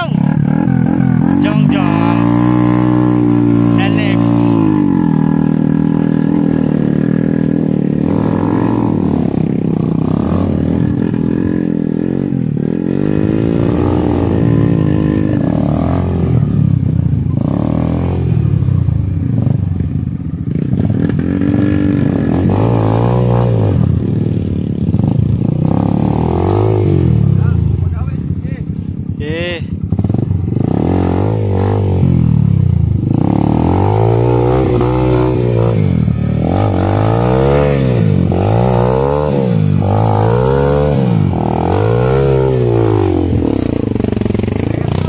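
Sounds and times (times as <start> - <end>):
dirt bike engine revving: 0.0 - 28.1, 29.2 - 45.0.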